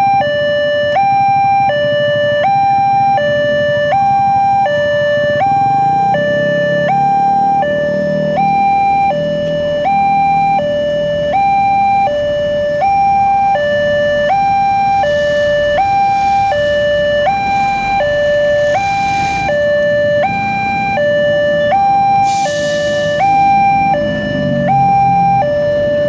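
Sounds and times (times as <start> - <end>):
level crossing two-tone alarm: 0.0 - 26.0
road traffic: 0.0 - 26.0.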